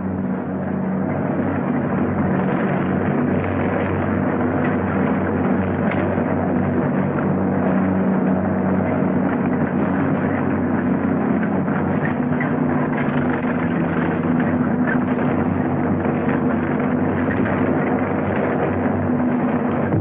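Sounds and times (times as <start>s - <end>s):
rumbling mechanical clatter: 0.0s - 20.0s
tank engines droning: 0.0s - 20.0s.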